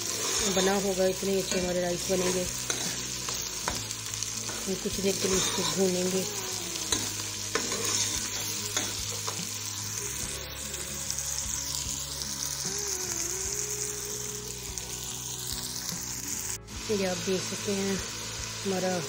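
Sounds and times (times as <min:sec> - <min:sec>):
masala sizzling in hot oil: 0:00.0 - 0:19.0.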